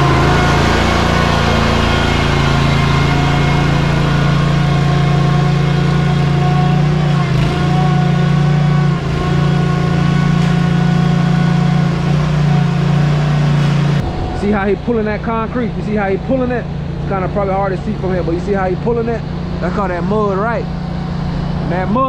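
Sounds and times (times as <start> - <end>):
truck diesel engine droning: 0.0 - 22.0.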